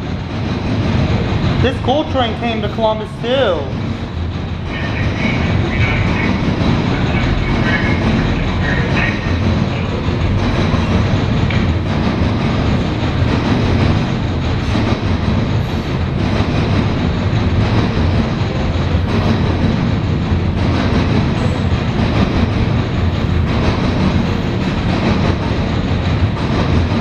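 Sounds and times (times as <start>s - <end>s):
freight train rumbling past: 0.0s - 27.0s
wheels clacking over rail joints: 0.0s - 27.0s.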